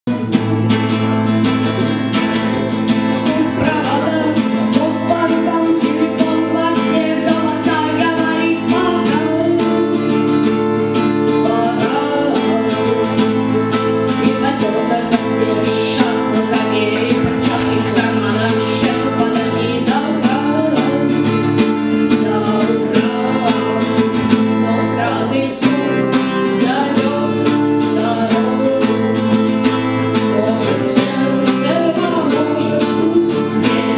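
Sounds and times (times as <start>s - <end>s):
guitars strumming: 0.0s - 33.9s.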